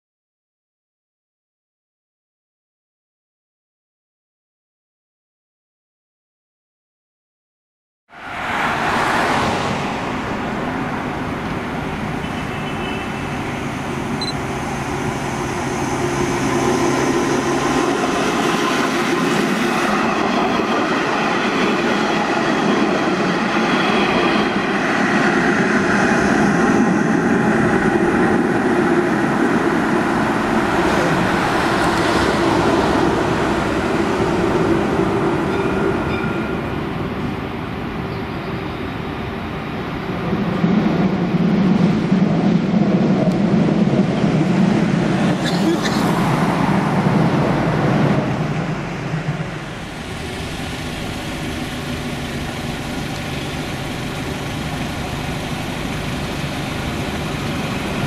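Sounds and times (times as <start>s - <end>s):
tram wheels rumbling on track: 8.2s - 58.0s.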